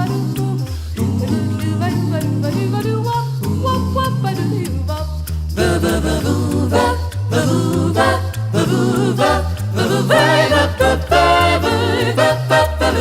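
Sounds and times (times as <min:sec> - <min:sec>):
a cappella group singing: 0:00.0 - 0:13.0.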